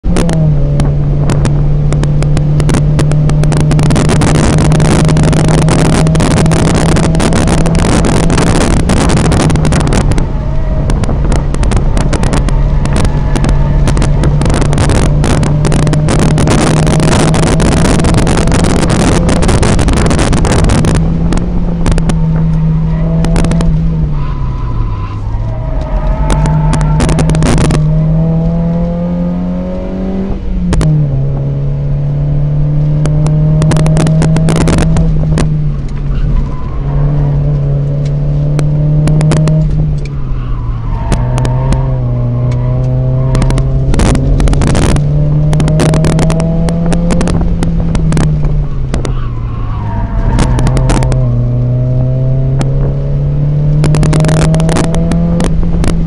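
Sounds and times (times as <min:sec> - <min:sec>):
car engine running hard: 0:00.0 - 0:56.0
road noise: 0:00.0 - 0:56.0.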